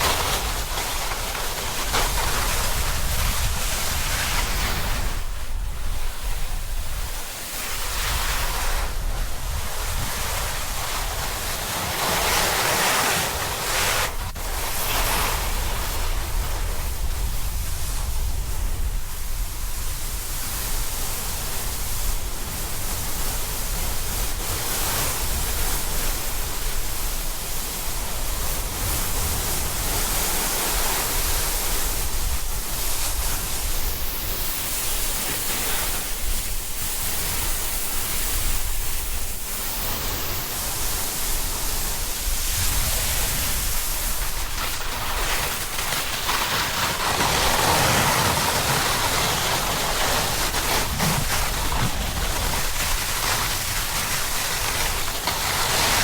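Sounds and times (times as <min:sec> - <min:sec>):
snowboard sliding over snow: 0:00.0 - 0:56.0
wind rumbling on microphone: 0:00.0 - 0:56.0.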